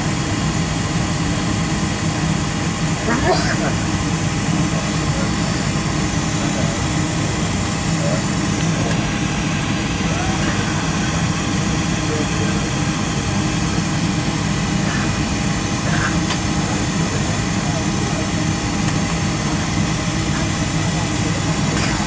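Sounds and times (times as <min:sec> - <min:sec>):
airliner cabin rush and hum: 0:00.0 - 0:22.0
faint voices murmuring: 0:02.8 - 0:22.0.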